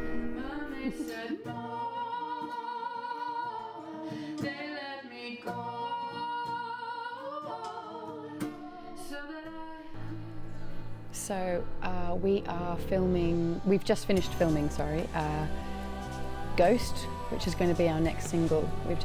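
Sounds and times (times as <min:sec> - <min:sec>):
woman singing long held notes: 0:00.0 - 0:10.2, 0:11.4 - 0:19.0
soft musical backing: 0:00.0 - 0:19.0.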